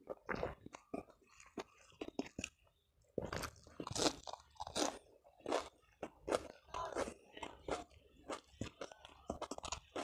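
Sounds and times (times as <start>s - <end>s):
crunchy chewing: 0.0s - 10.0s
person chewing food: 0.0s - 10.0s.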